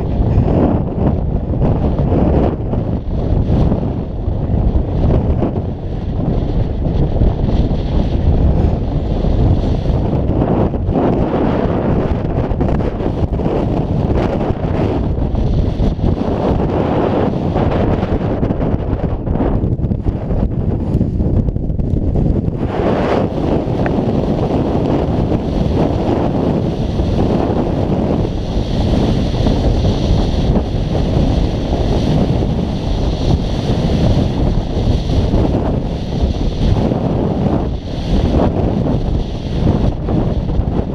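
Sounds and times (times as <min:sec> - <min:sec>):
wind blowing across microphone: 0:00.0 - 0:40.9.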